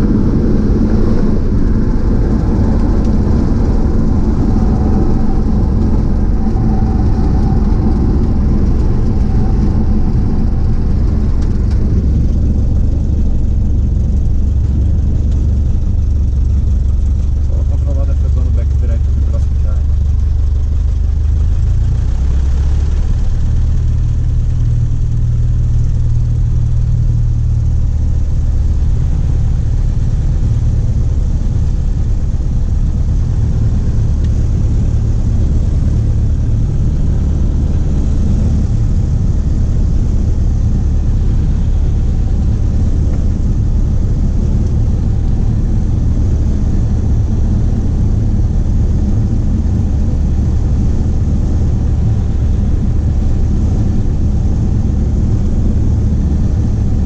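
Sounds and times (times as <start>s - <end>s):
propeller plane engine drone: 0.0s - 57.0s.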